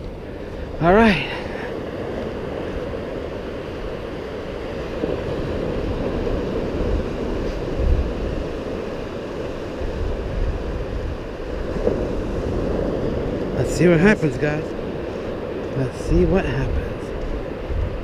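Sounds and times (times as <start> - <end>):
ocean surf on beach: 0.0 - 18.0
wind rumbling on microphone: 0.0 - 18.0.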